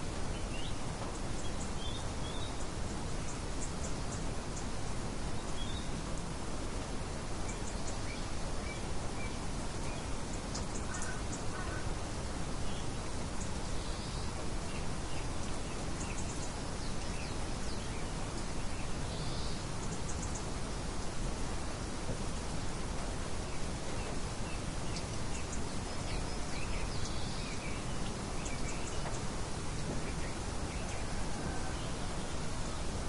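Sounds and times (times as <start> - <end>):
wind and snowfall hiss: 0.0 - 33.0.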